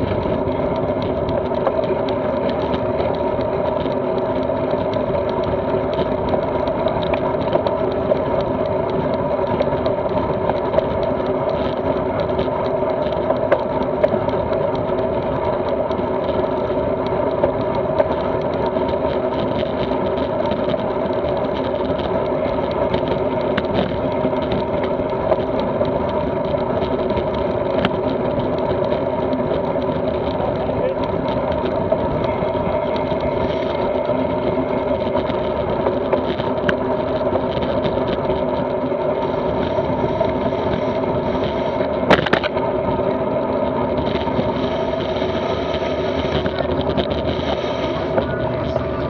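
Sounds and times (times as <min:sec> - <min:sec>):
bike tyre rumble: 0:00.0 - 0:49.0
wind rumble: 0:00.0 - 0:49.0.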